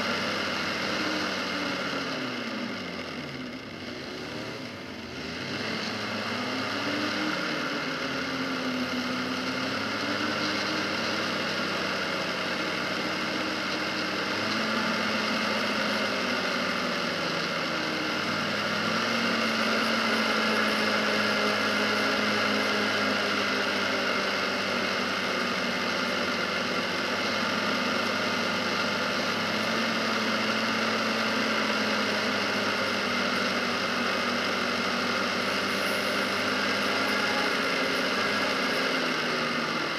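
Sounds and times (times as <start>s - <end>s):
atv engine running: 0.0s - 39.9s
road and wind noise: 0.0s - 39.9s.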